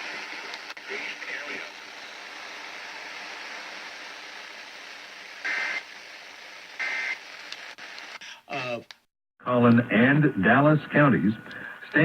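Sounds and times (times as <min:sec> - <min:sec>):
radio hiss: 0:00.0 - 0:08.8, 0:10.0 - 0:12.0.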